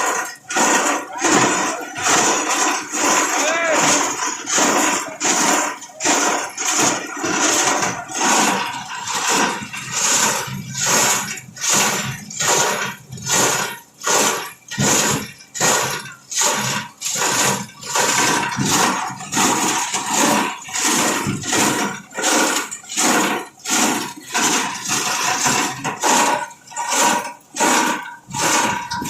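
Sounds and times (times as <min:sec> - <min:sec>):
plastic grinder crunching: 0:00.0 - 0:29.0.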